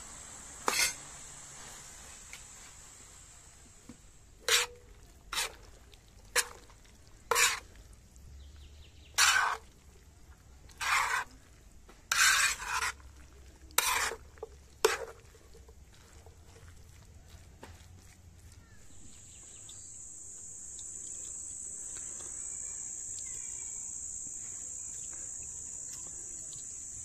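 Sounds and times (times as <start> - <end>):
utensil scraping food in a pan: 0.2 - 3.2, 3.9 - 7.8, 9.0 - 27.0.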